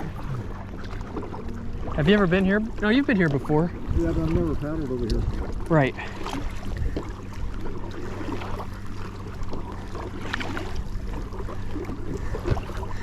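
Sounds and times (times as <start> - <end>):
low hum: 0.0 - 13.0
paddle splashing in water: 0.0 - 13.0
water lapping against hull: 0.0 - 13.0.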